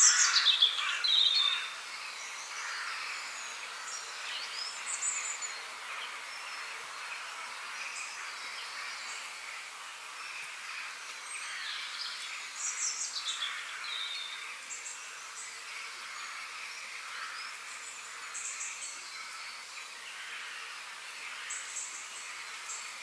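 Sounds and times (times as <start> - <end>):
steady background hiss: 0.0 - 23.0
wild birds singing and chirping: 0.0 - 23.0.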